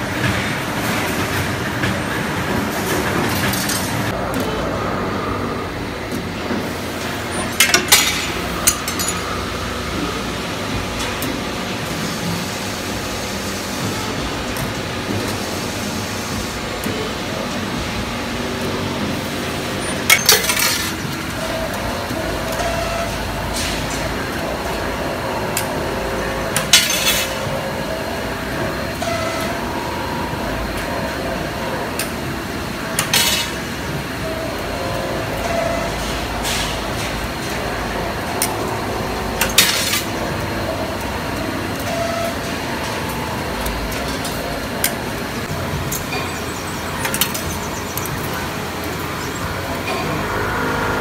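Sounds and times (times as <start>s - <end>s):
machine mechanical hum: 0.0s - 51.0s.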